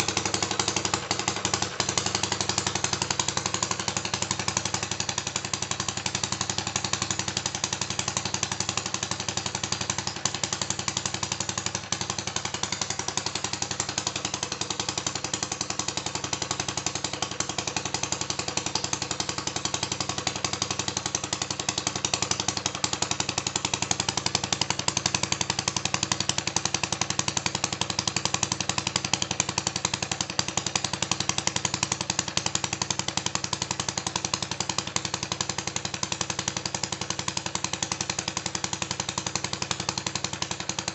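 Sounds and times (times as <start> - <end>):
small engine running with firing pops: 0.0 - 40.9.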